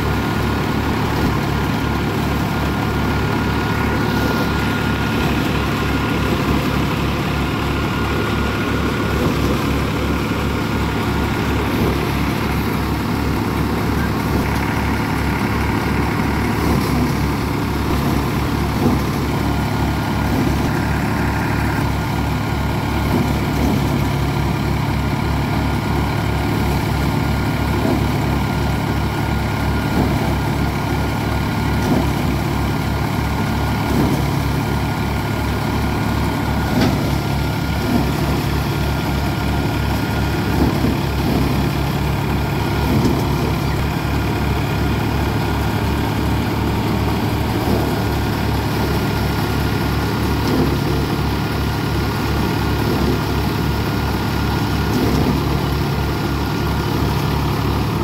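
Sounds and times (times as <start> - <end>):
tractor diesel engine running: 0.0 - 58.0
thresher drum turning: 0.1 - 58.0.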